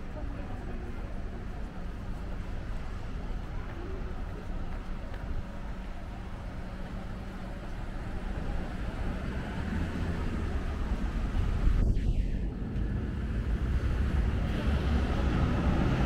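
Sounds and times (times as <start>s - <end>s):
low traffic rumble: 0.0s - 16.0s
street traffic road noise: 0.0s - 16.0s.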